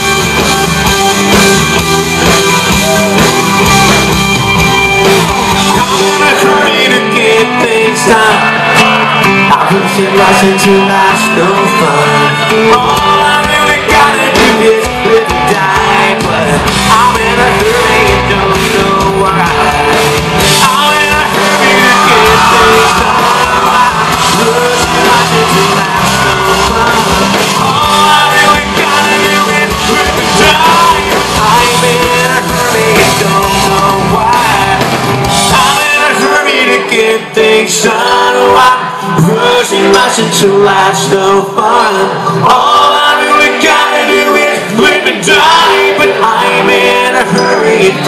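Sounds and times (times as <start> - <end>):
crowd shouting: 0.0 - 48.0
live band music with singing: 0.0 - 48.0.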